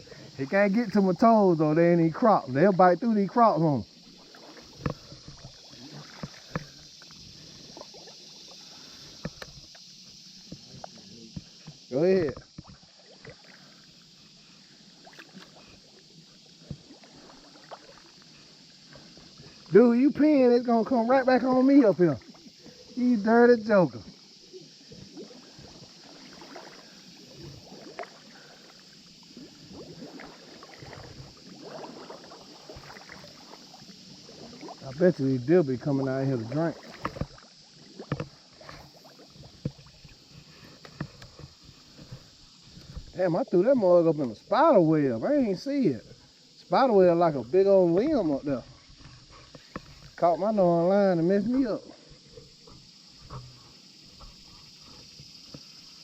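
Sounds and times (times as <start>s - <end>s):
steady high hiss: 0.0s - 56.0s
water sloshing and splashing: 0.0s - 56.0s.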